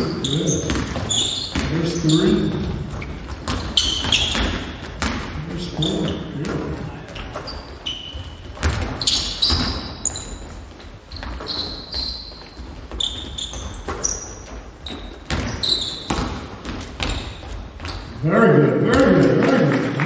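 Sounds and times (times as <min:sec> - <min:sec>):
sneaker squeaks: 0:00.0 - 0:18.2
basketball bouncing: 0:00.1 - 0:10.5, 0:11.1 - 0:18.2.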